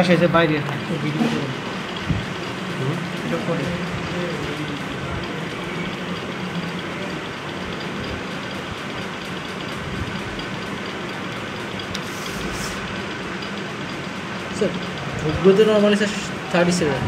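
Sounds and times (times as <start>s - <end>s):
mechanical drone with hiss: 0.0s - 17.0s.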